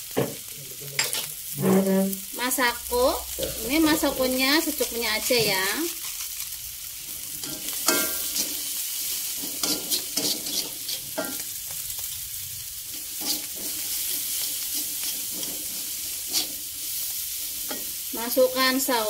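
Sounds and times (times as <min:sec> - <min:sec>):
food sizzling in hot oil: 0:00.0 - 0:19.0
metal spatula scraping wok: 0:00.9 - 0:02.2, 0:03.3 - 0:19.0.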